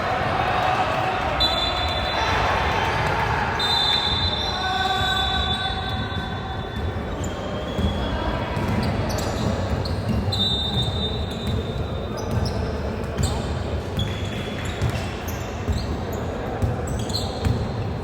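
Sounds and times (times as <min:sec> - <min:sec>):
sneakers squeaking: 0:01.4 - 0:18.0.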